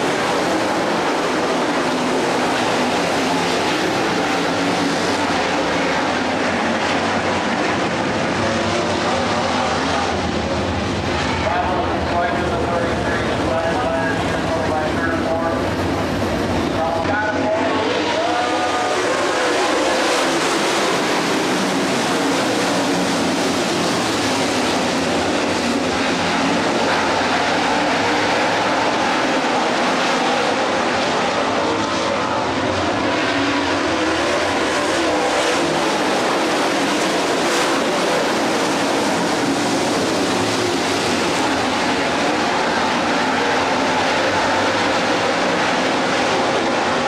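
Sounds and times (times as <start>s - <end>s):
race car engines roaring: 0.0s - 47.0s.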